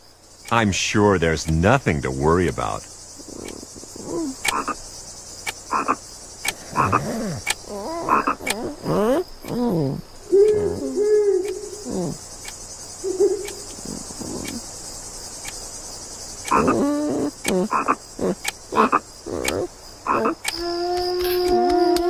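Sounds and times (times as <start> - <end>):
crickets chirping: 0.0 - 22.0
frogs croaking: 0.0 - 22.0.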